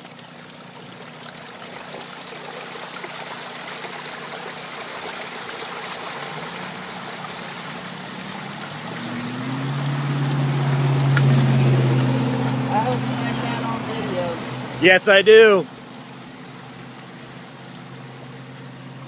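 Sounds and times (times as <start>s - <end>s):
engine hum: 0.0s - 19.0s
sewage water gushing from pipe: 0.0s - 19.0s.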